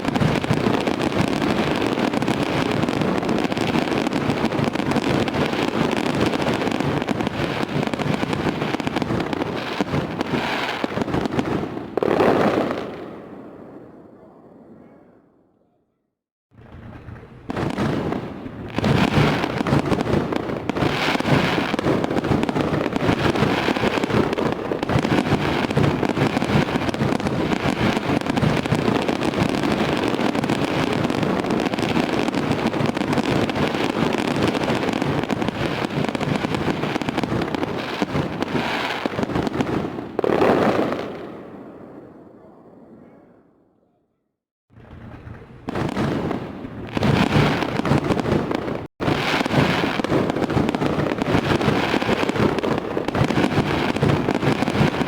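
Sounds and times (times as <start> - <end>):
fireworks bangs and crackles: 0.0 - 14.8, 16.5 - 43.0, 44.7 - 55.0.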